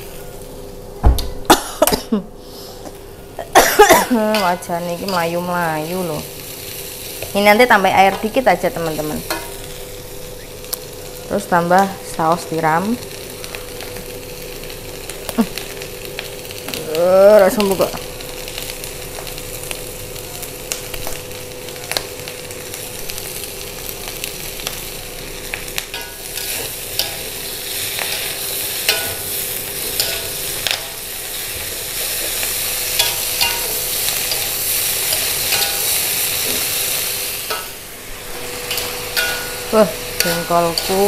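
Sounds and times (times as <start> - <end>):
food sizzling in a wok: 0.0 - 0.9, 2.1 - 41.0.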